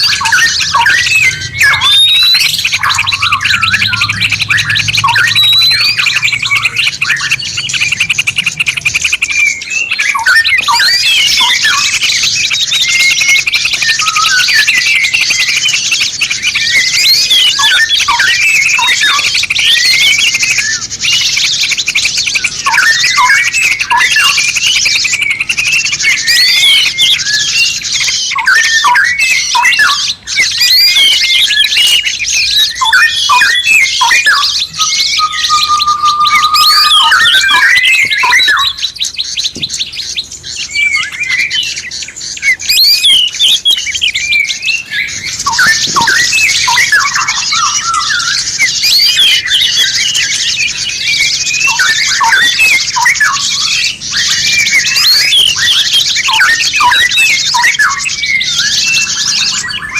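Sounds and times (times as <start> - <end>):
songbird chattering trills: 0.0 - 59.9.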